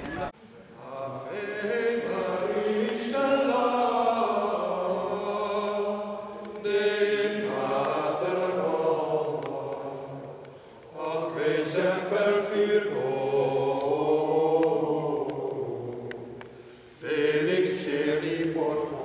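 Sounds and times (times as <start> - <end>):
choir singing chant: 0.0 - 19.0.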